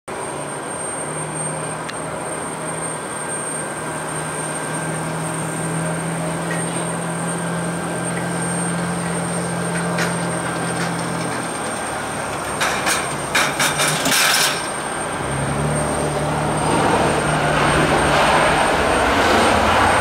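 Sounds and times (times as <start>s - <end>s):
jet airliner engines humming: 0.1s - 20.0s.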